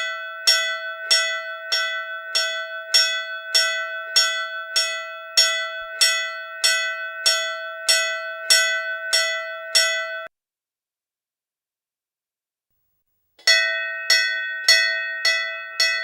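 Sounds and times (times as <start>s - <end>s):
temple bell clanging: 0.0s - 10.3s, 13.4s - 16.0s.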